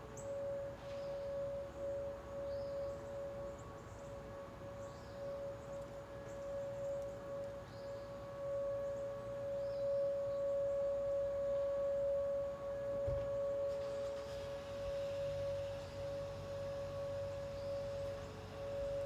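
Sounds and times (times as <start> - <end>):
warning sirens steady tone: 0.0 - 19.0.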